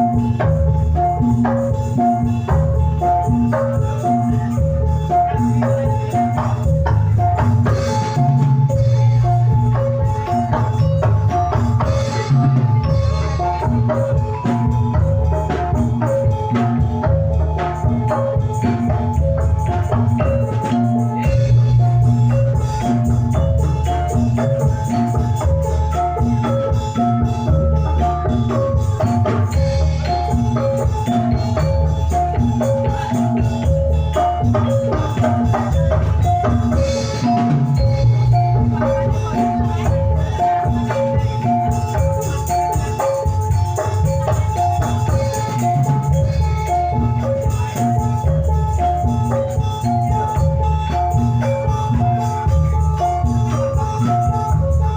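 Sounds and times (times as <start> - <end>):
drums: 0.0 - 54.9
heavy bass: 0.0 - 54.9
metal-keyed instruments ringing: 0.0 - 54.9
metallophone notes: 0.0 - 54.9.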